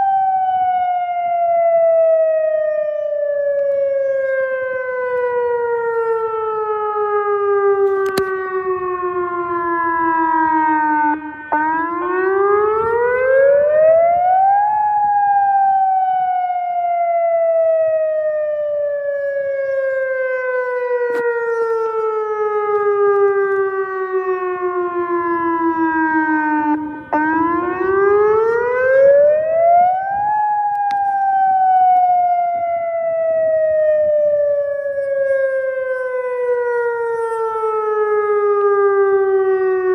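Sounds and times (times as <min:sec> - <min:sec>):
tornado siren wailing: 0:00.0 - 0:39.9.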